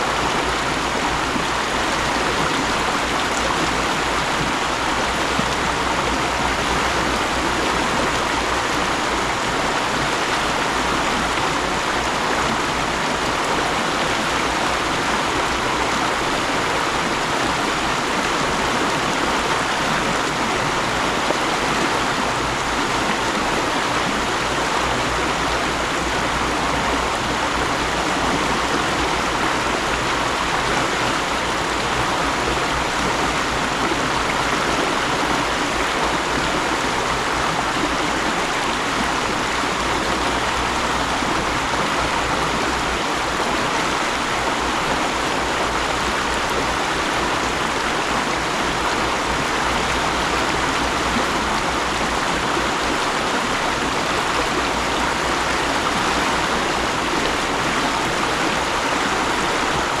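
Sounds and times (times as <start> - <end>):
stream flowing over rocks: 0.0 - 60.0.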